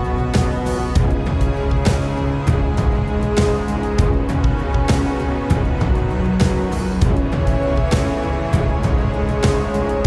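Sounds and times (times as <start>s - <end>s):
percussion strikes: 0.0s - 10.0s.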